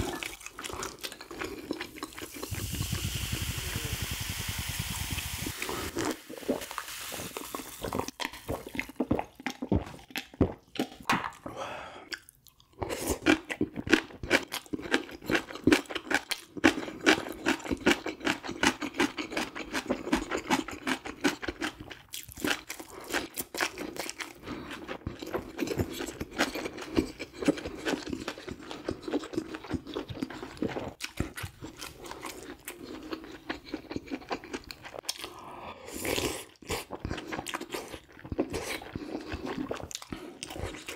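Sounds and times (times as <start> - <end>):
chewing and crunching fish: 0.0 - 2.9, 5.6 - 11.5, 12.1 - 40.9.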